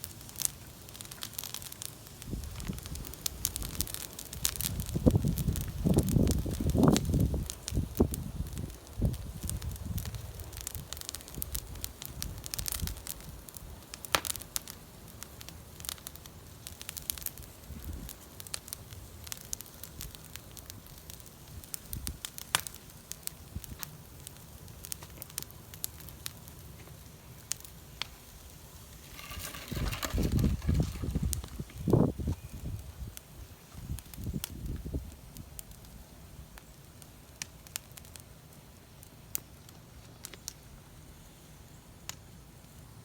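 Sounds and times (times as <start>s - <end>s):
bonfire crackling and popping: 0.0s - 43.0s
low fire rumble: 0.0s - 43.0s.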